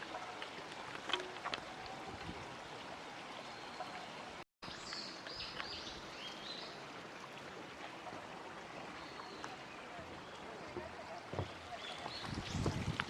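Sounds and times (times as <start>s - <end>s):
shallow stream babbling: 0.0s - 13.0s.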